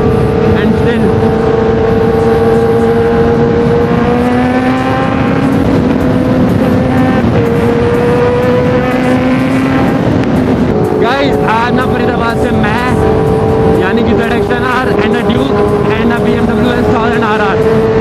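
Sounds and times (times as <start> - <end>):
wind rush on microphone: 0.0 - 18.0.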